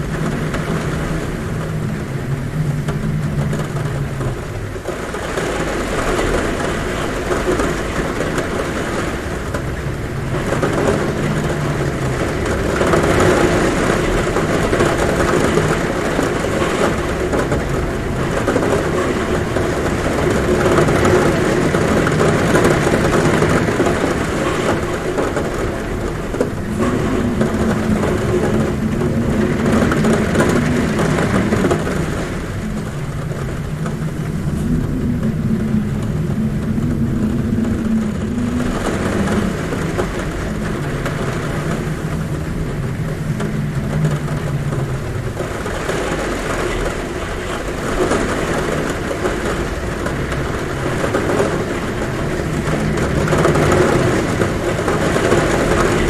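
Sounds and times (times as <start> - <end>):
heavy rain drumming on a roof: 0.0 - 56.0
low humming wind: 0.0 - 56.0.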